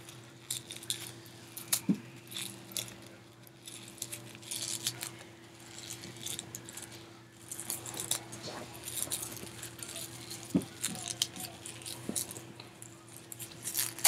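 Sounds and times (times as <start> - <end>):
plastic packaging crackling: 0.0 - 14.0
steady low hum: 0.0 - 14.0.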